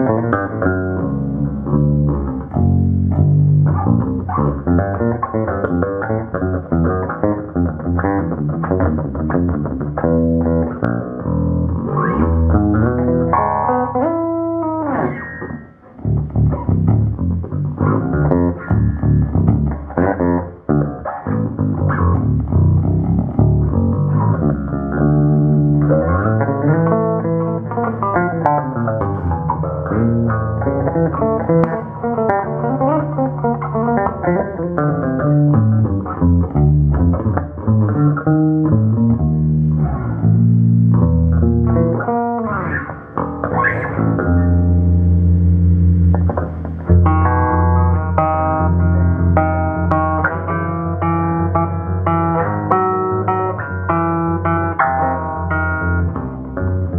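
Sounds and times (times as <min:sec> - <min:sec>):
electric bass guitar playing: 0:00.0 - 0:56.9.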